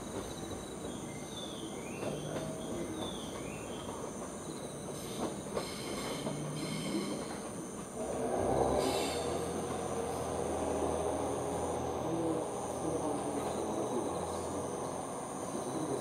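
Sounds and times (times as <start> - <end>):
train rumbling over rails: 0.0 - 16.0
train wheels squealing: 0.0 - 16.0.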